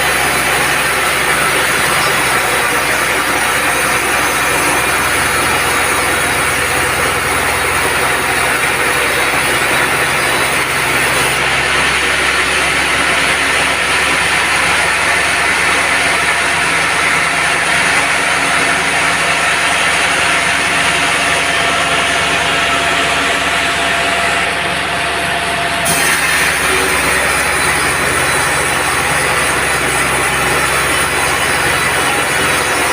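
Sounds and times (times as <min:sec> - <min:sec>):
band sawmill running: 0:00.0 - 0:32.9.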